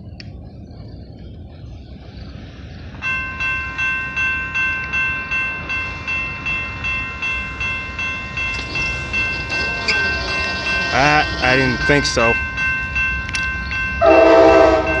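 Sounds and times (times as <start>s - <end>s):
railroad crossing bell ringing: 1.2s - 15.0s.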